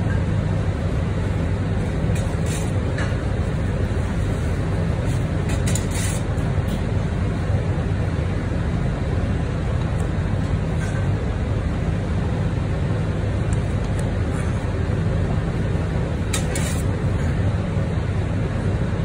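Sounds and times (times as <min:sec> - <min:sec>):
kitchen machinery droning: 0:00.0 - 0:19.0.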